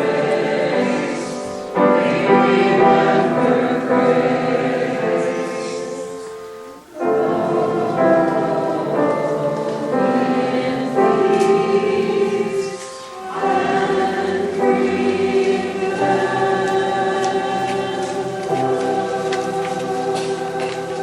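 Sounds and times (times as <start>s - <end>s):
choir singing a slow hymn: 0.0s - 21.0s.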